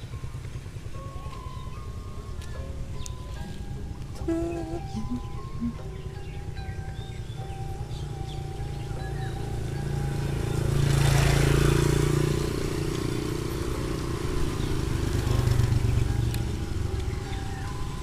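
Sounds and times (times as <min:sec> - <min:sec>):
motor scooter passing by: 0:00.0 - 0:18.0
small motorcycle engine running: 0:00.0 - 0:18.0.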